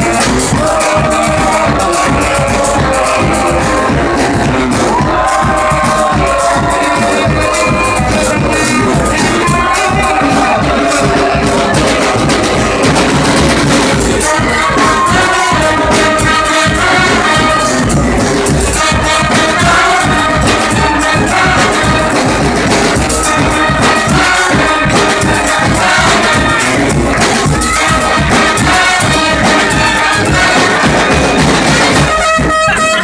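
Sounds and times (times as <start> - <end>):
brass band playing: 0.0 - 33.0
drums: 0.0 - 33.0
shaken percussion: 0.0 - 33.0.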